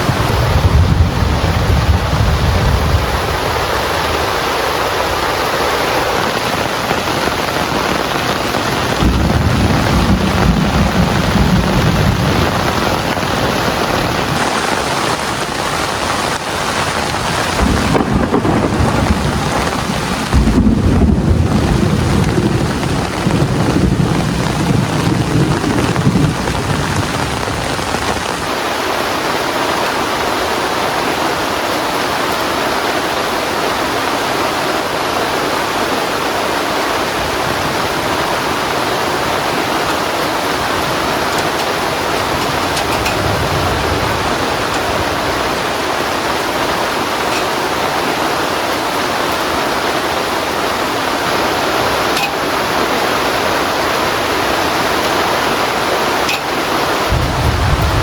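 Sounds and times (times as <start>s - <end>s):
thunder rumbling: 0.0s - 28.6s, 35.6s - 58.0s
heavy rain: 0.0s - 58.0s.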